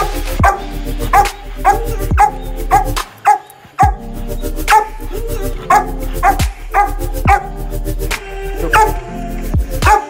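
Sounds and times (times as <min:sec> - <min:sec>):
music with deep bass beat: 0:00.0 - 0:03.2, 0:03.8 - 0:10.0
dogs barking: 0:00.0 - 0:07.8, 0:08.6 - 0:10.0.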